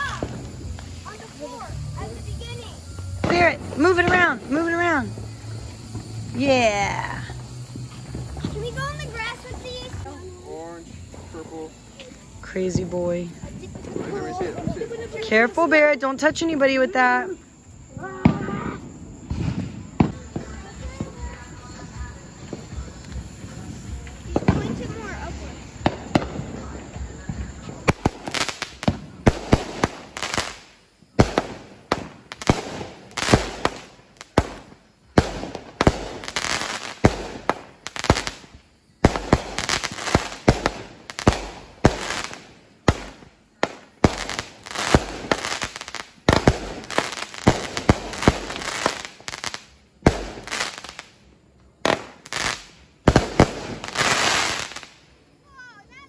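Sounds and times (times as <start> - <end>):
firework launches: 0.0 - 15.8, 17.5 - 55.2
firework aerial bursts and crackle: 0.0 - 56.0.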